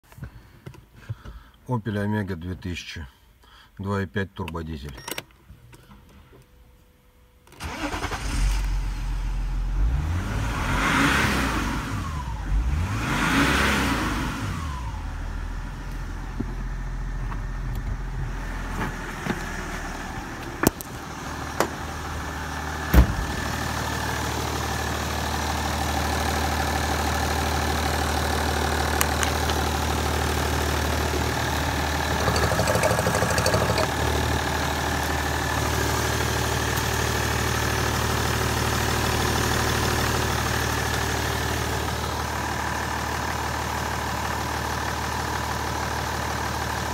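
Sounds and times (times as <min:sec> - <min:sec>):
diesel engine starting and revving: 0:07.5 - 0:46.9.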